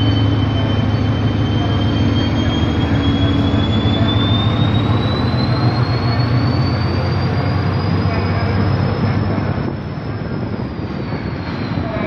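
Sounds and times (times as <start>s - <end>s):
diesel locomotive engine rumble: 0.0s - 12.0s
high whine rising in pitch: 0.0s - 12.0s.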